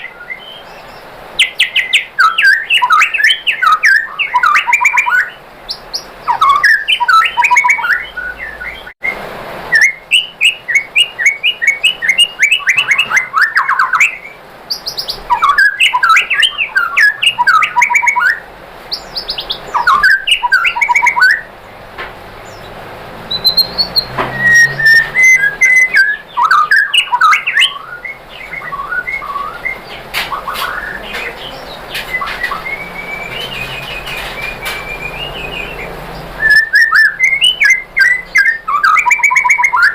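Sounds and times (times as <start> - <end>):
songbird chirps and whistles: 0.0 - 21.5, 22.4 - 39.9.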